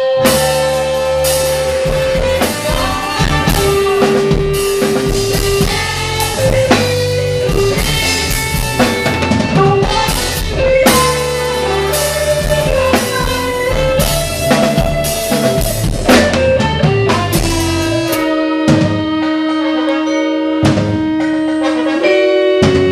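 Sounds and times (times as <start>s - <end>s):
bass line: 0.0s - 19.7s
congas: 0.0s - 22.9s
drum kit beat: 0.0s - 22.9s
held melody notes: 0.0s - 22.9s.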